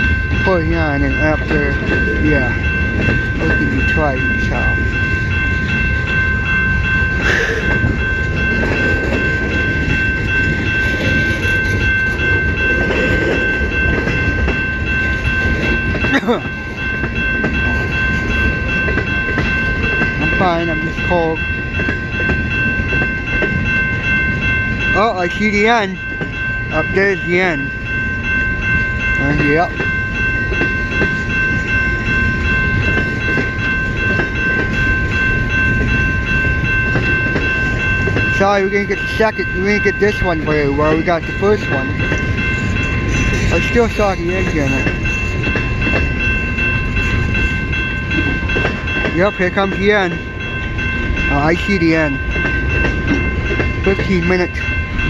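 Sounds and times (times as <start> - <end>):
freight train cars rumbling: 0.0 - 55.0
high-pitched ringing tone: 0.0 - 55.0.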